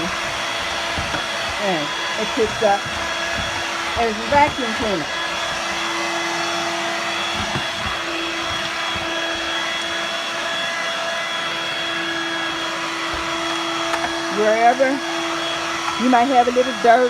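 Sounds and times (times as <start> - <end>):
stick vacuum running: 0.0 - 17.0.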